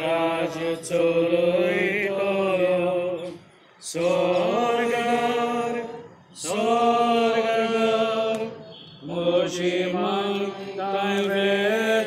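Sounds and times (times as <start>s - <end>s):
person singing a slow hymn: 0.0s - 12.0s.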